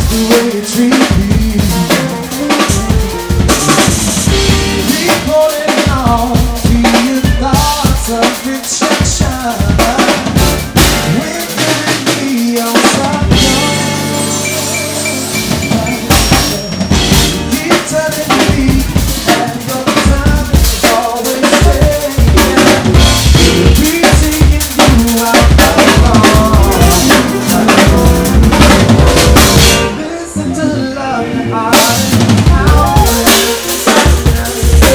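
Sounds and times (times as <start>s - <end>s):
drum kit beat: 0.0s - 30.2s, 31.6s - 34.9s
man singing: 0.0s - 34.9s.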